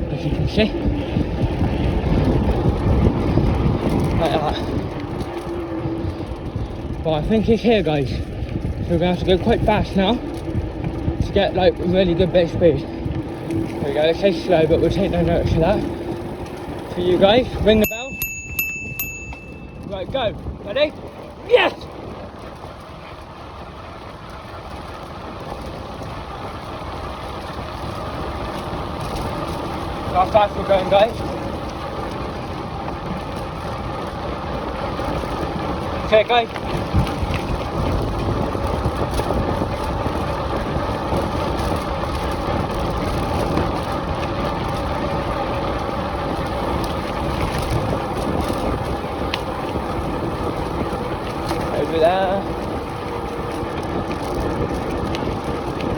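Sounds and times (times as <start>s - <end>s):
bicycle tyre and road noise: 0.0s - 55.9s
wind on microphone: 0.0s - 55.9s.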